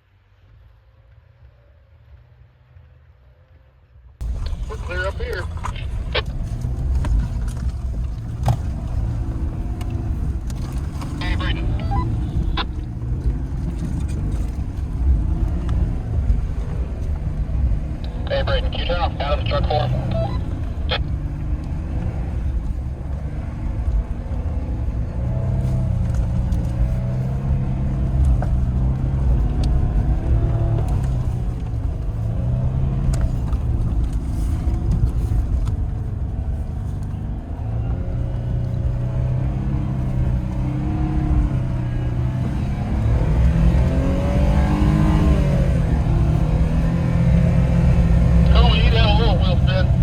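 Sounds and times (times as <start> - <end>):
truck engine revving: 4.2 - 33.8, 37.7 - 50.0.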